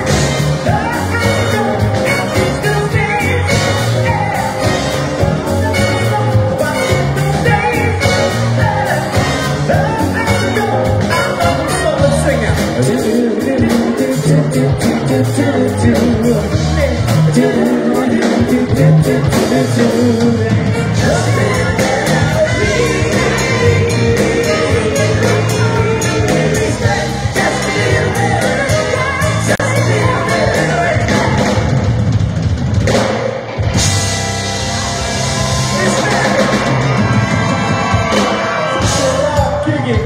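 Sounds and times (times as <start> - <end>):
rock band with singer: 0.0 - 40.0.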